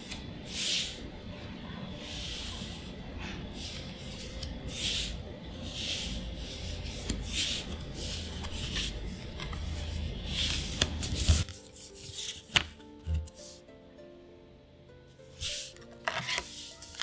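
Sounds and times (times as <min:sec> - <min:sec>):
cards sliding swish: 0:00.0 - 0:13.6, 0:15.4 - 0:17.0.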